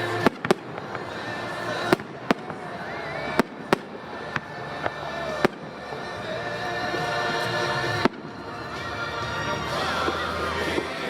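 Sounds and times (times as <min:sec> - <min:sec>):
fireworks bangs: 0:00.0 - 0:11.0
music playing: 0:00.0 - 0:11.0.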